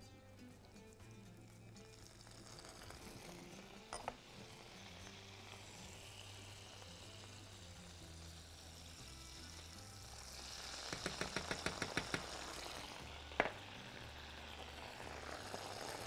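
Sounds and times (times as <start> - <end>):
garlic sizzling in oil: 1.5 - 16.0.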